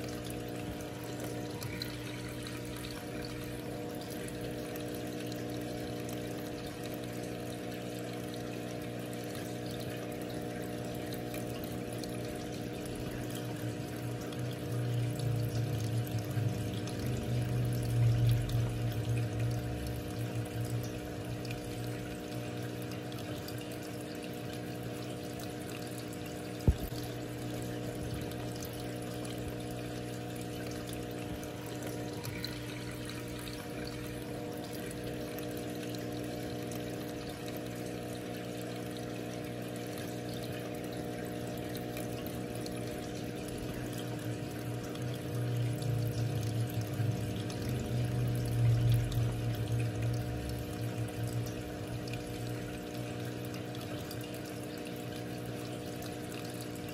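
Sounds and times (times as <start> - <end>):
aquarium filter humming: 0.0 - 56.9
water trickling: 0.0 - 56.9.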